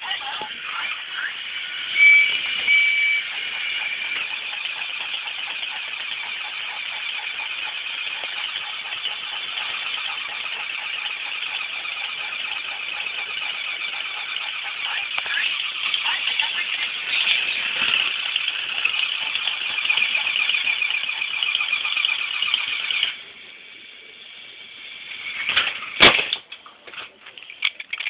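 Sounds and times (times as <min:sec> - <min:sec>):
toy train motors whirring: 0:00.0 - 0:26.5.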